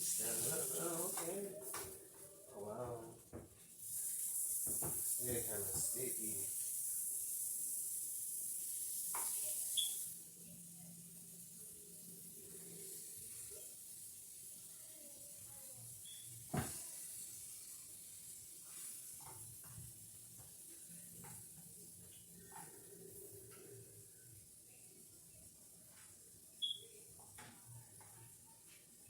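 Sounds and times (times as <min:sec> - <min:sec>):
chicken sizzling in a pan: 0:00.0 - 0:29.0.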